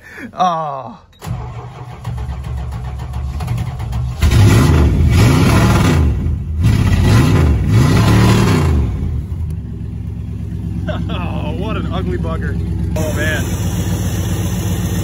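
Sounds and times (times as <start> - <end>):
truck engine revving: 1.2 - 15.0.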